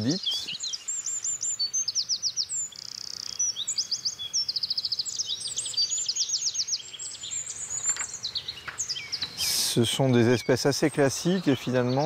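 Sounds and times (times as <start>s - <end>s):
wren singing: 0.0s - 12.0s.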